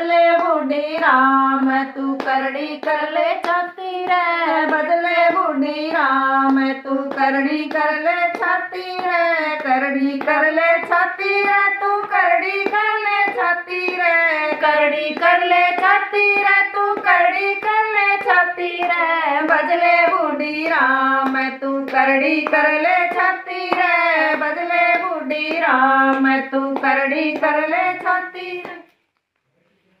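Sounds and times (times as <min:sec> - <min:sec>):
women singing together: 0:00.0 - 0:28.9
hand claps: 0:00.0 - 0:29.0.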